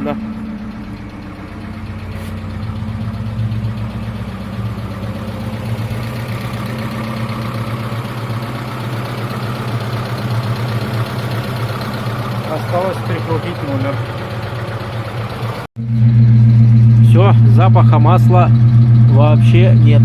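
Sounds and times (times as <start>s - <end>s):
petrol engine idling: 0.0s - 20.0s.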